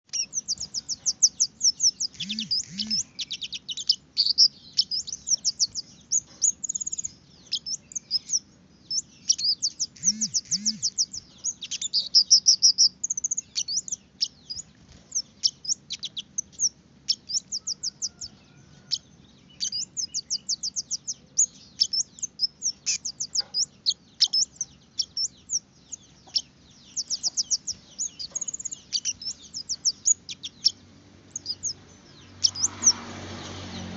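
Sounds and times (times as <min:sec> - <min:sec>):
songbird high sharp chirps: 0:00.0 - 0:33.9.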